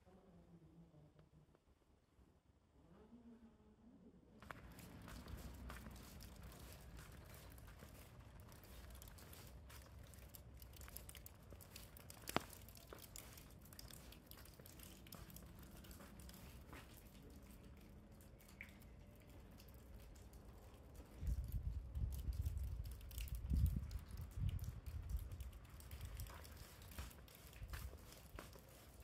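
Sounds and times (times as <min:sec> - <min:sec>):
small clicks and crackles: 0:04.4 - 0:29.0.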